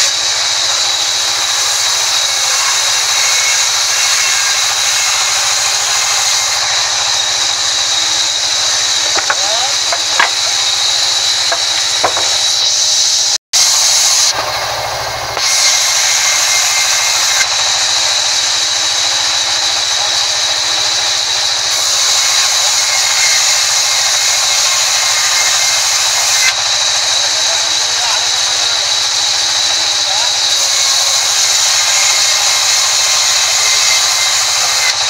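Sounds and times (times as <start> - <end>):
band saw ripping timber: 0.0 - 12.8, 13.6 - 35.0.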